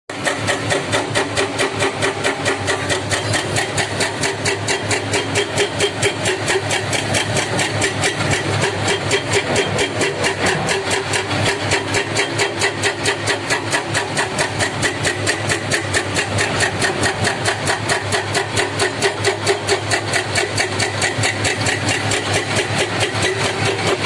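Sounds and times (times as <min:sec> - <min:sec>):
diesel engine pulsing: 0:00.1 - 0:24.0.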